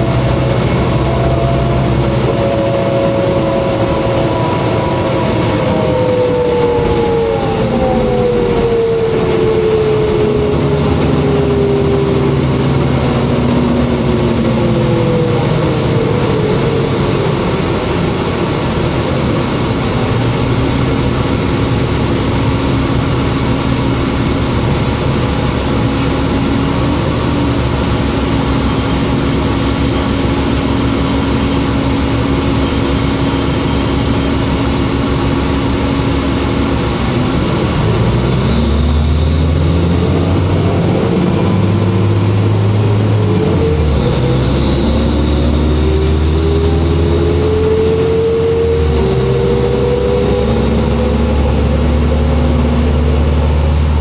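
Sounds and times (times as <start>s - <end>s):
bus diesel engine running: 0.0s - 54.0s
road noise: 0.0s - 54.0s.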